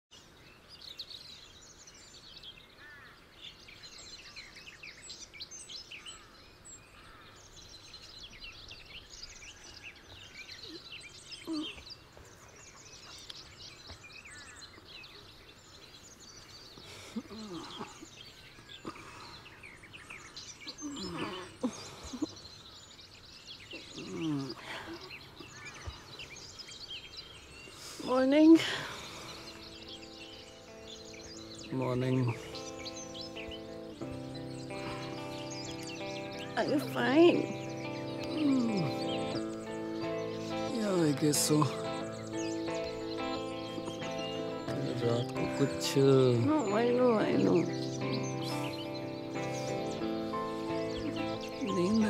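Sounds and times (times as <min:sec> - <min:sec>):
birds chirping and twittering: 0:00.0 - 0:52.0.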